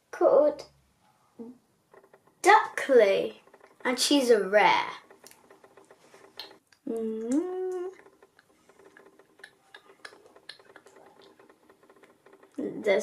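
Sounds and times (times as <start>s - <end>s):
faint small ticks and clicks: 1.9s - 13.0s.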